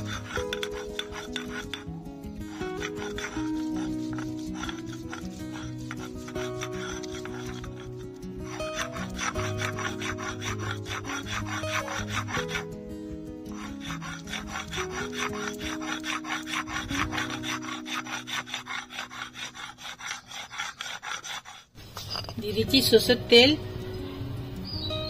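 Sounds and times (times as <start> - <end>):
stone pestle grinding on stone: 0.0 - 22.4.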